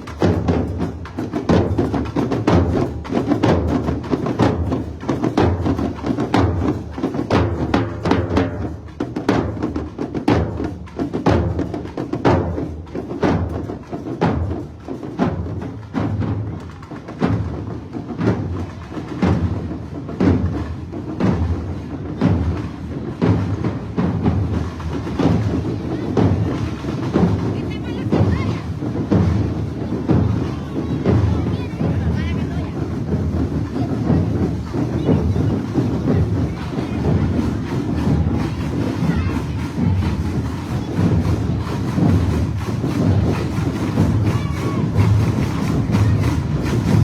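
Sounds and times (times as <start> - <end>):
drum and percussion parade music: 0.0 - 47.0.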